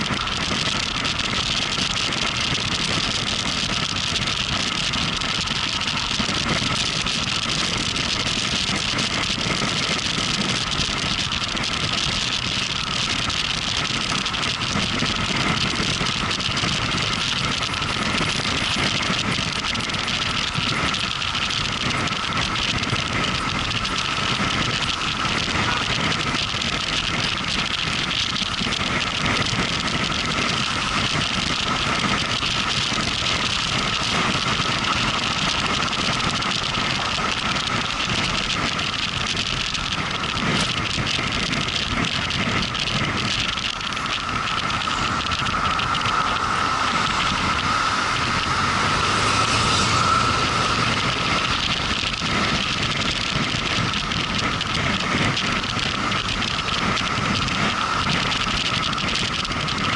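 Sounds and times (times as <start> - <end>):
motorcycle engine running: 0.0 - 59.9
steady whine: 0.0 - 59.9
wind and road noise: 0.0 - 59.9.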